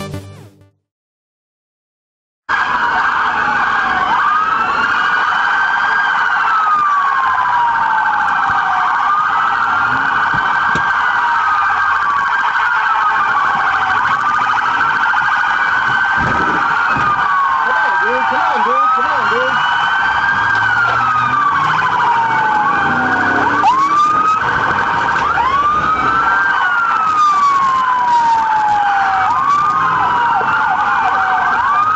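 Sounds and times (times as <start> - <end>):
police siren wailing: 2.5 - 31.9.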